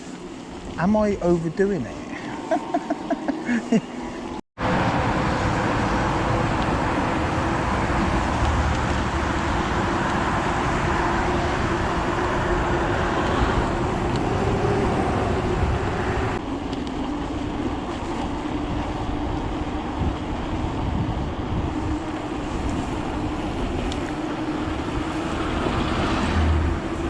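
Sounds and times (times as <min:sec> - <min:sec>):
electric bike motor whining: 0:02.0 - 0:27.0
wind noise: 0:04.6 - 0:27.0.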